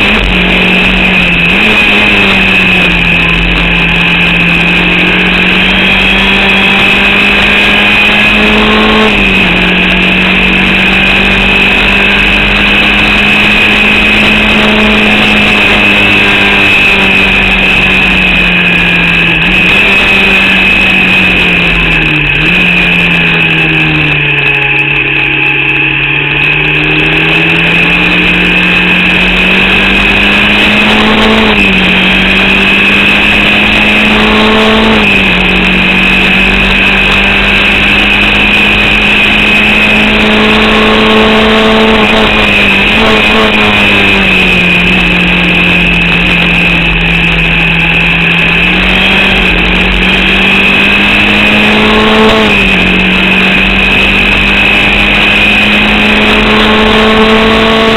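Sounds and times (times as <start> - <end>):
racing car engine running hard: 0.0 - 57.9.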